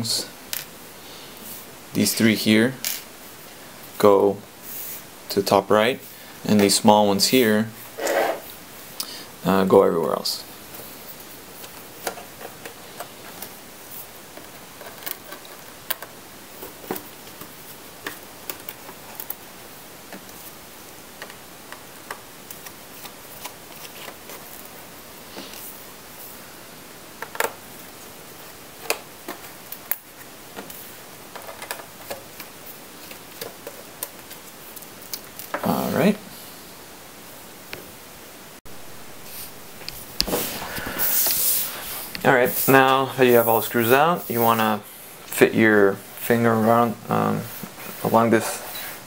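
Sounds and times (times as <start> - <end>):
low steady hiss: 0.0 - 49.0.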